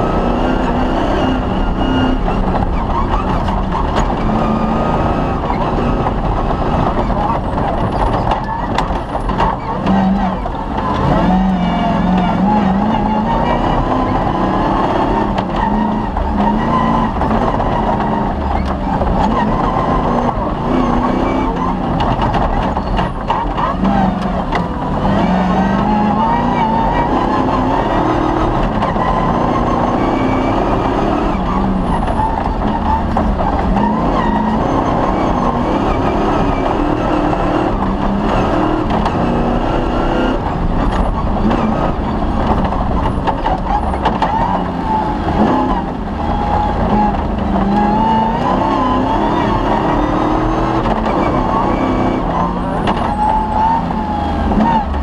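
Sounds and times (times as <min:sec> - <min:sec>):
rally car engine revving: 0:00.0 - 0:55.0
knocks and rattles: 0:01.6 - 0:55.0.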